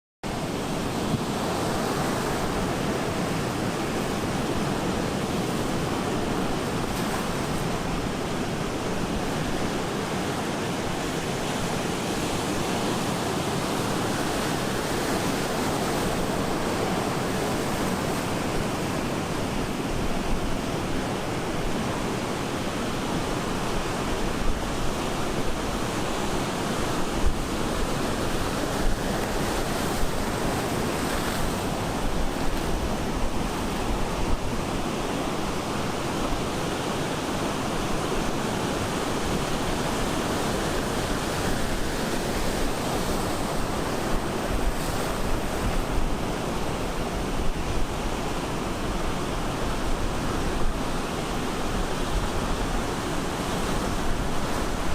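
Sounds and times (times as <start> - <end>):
ocean surf breaking: 0.3 - 54.9.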